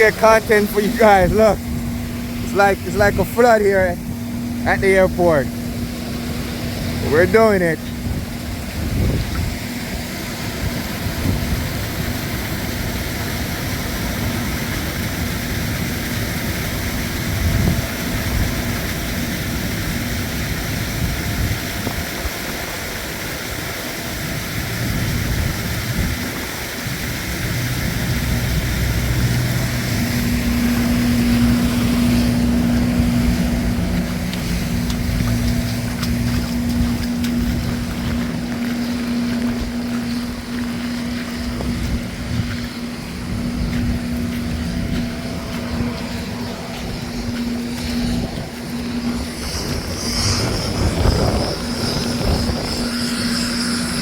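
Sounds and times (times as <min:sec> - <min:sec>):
engine hum: 0:00.0 - 0:54.0
heavy rain: 0:00.0 - 0:54.0
wind noise on microphone: 0:00.0 - 0:54.0.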